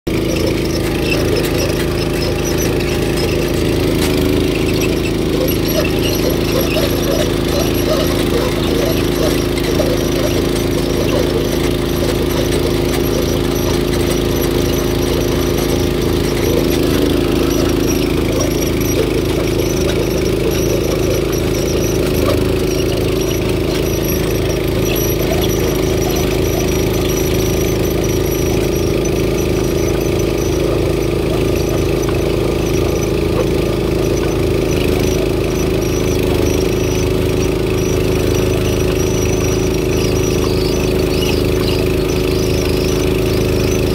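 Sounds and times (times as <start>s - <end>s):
trencher engine running: 0.0s - 43.9s
digging chain cutting rocky soil: 0.1s - 43.9s.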